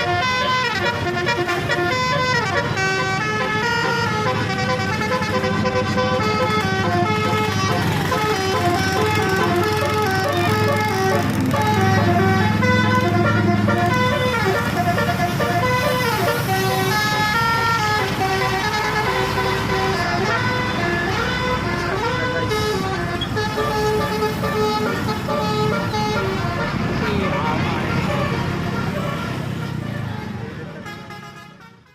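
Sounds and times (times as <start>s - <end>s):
musical air horns: 0.0s - 30.0s
bus engines rumbling: 0.0s - 31.9s.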